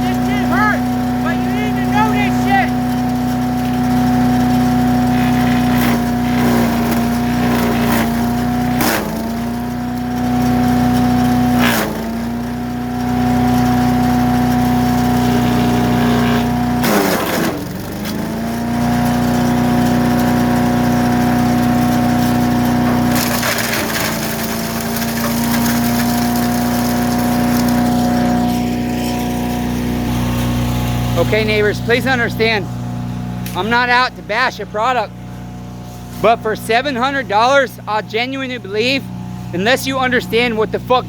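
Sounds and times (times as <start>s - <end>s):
wood cracking in chipper: 0.0s - 32.5s, 33.3s - 34.5s
wood chipper engine running: 0.0s - 41.0s.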